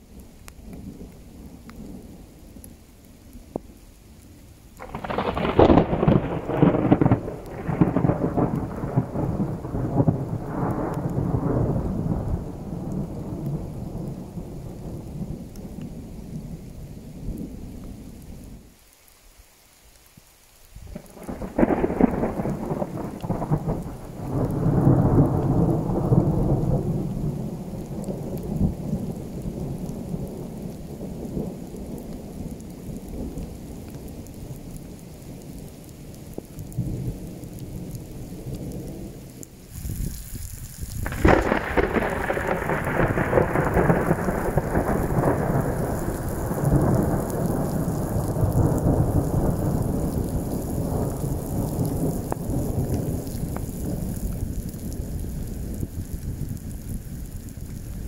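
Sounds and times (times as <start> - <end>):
falling rain: 0.0 - 58.0
rolling thunder: 4.8 - 17.8, 20.9 - 35.7, 36.3 - 58.0.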